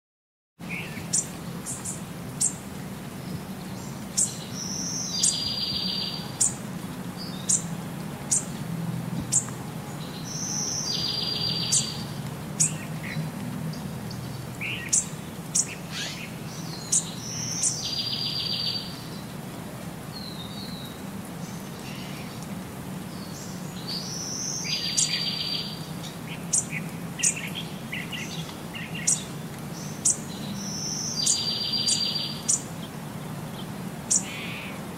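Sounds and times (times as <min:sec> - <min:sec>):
small birds chirping: 0:00.6 - 0:19.4, 0:20.1 - 0:34.9.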